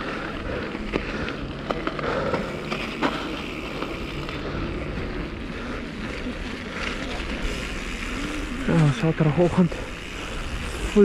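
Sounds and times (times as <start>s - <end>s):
bike clicks and rattles: 0.0s - 11.0s
bike tyres rolling: 0.0s - 11.0s.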